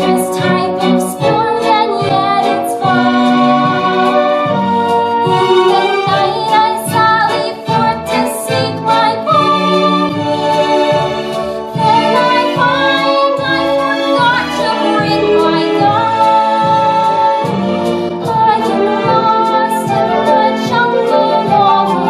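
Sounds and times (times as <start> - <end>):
instrumental accompaniment with beat: 0.0 - 22.0.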